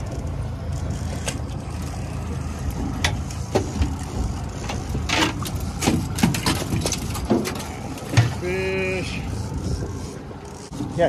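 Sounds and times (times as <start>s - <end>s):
outboard motors running: 0.0s - 11.0s.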